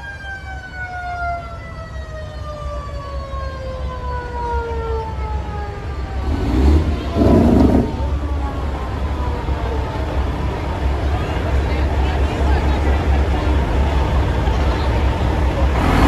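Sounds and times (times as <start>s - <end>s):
diesel engines rumbling: 0.0s - 16.0s.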